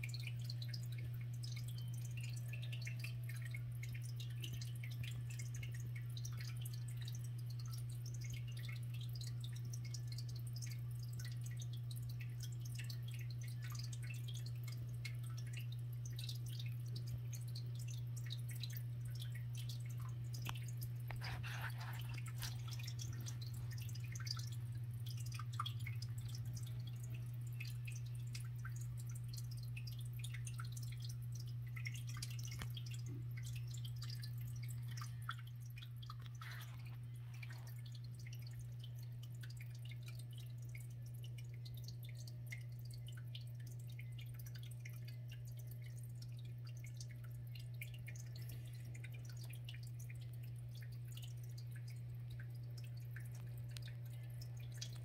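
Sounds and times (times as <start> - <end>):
faint drip-like ticks: 0.0 - 55.0.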